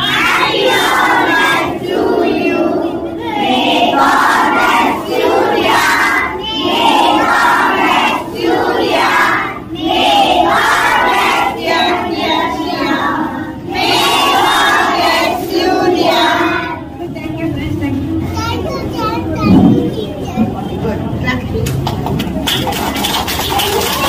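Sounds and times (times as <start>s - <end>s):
children singing and chanting: 0.0s - 17.1s, 18.1s - 20.6s.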